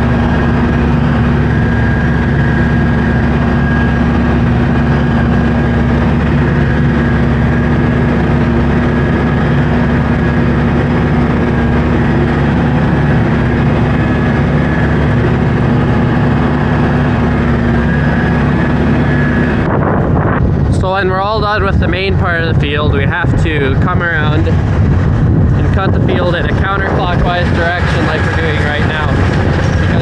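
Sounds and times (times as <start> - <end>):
mower mechanical whir: 0.0 - 30.0
tractor engine drone: 0.0 - 30.0.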